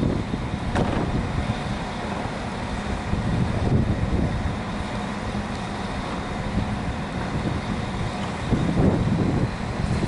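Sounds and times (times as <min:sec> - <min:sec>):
diesel train engine humming: 0:00.0 - 0:10.0.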